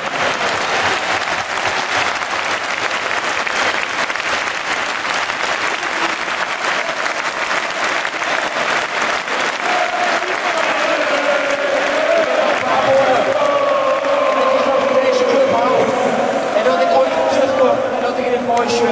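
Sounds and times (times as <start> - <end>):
stadium crowd applauding: 0.0 - 18.9.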